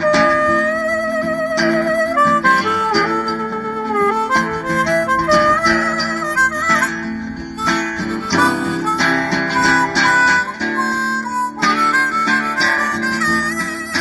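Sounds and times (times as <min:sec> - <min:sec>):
harmonica playing bending notes: 0:00.0 - 0:14.0
strummed acoustic guitar: 0:00.0 - 0:14.0.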